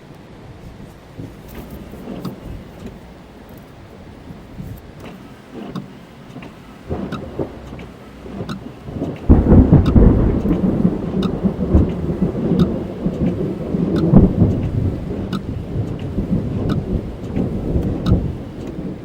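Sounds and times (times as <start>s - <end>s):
rain pattering on car roof: 0.0s - 19.0s
thunder rumbling: 0.0s - 19.0s.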